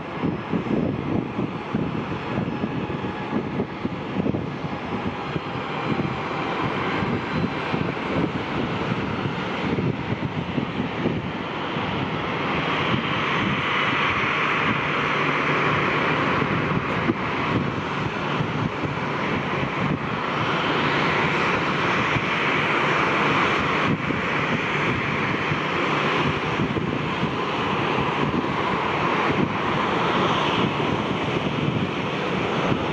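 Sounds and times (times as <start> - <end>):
jet engines running: 0.0 - 32.9.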